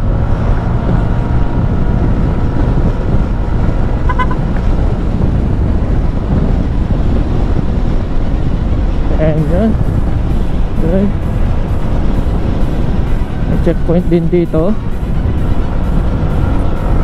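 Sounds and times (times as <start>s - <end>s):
road rumble: 0.0s - 17.0s
wind buffeting: 0.0s - 17.0s.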